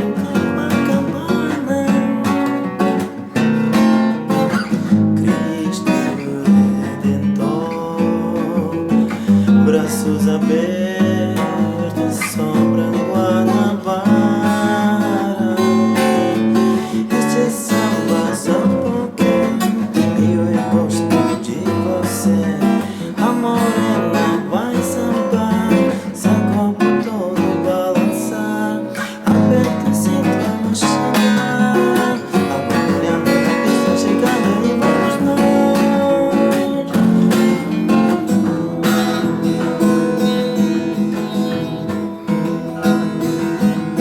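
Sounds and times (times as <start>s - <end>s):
acoustic guitar strumming: 0.0s - 44.0s.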